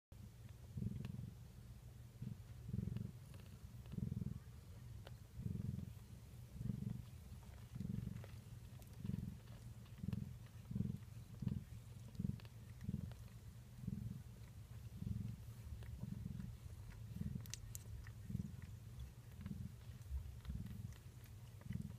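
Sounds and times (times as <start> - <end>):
cat purring: 0.2 - 21.9.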